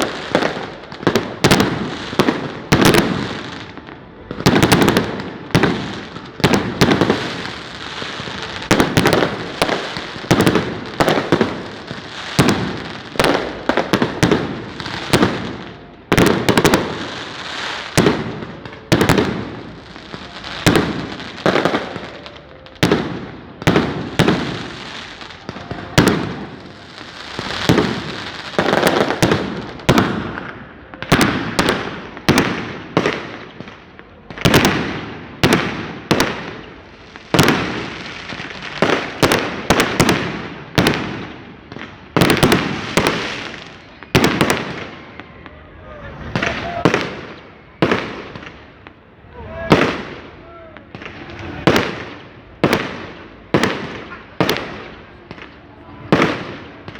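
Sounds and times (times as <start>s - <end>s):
firecrackers banging: 0.0s - 56.9s.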